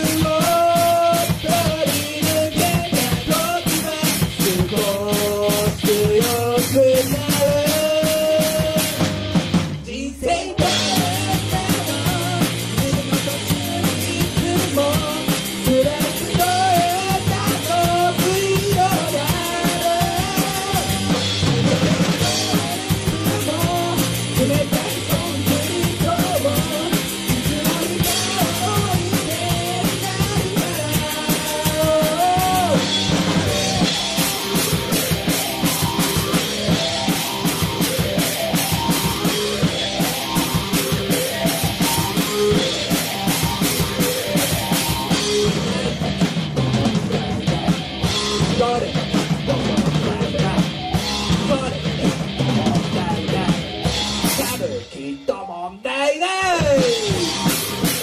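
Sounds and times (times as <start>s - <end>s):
distorted electric guitar: 0.0s - 58.0s
driving drum beat: 0.0s - 58.0s
person singing lead vocal: 0.0s - 58.0s
rock band playing: 0.0s - 58.0s.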